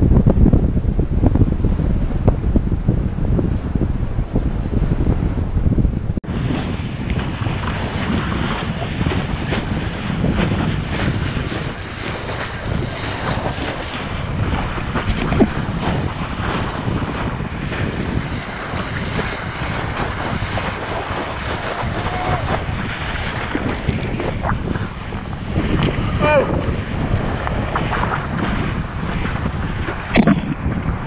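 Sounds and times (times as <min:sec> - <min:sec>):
water rushing and slapping: 0:00.0 - 0:31.0
wind buffeting microphone: 0:00.0 - 0:31.0.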